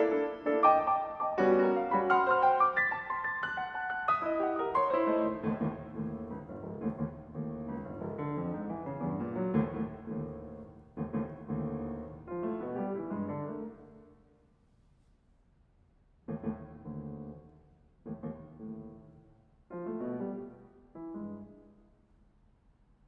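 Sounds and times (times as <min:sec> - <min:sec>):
grand piano solo: 0:00.0 - 0:14.1, 0:16.3 - 0:21.8.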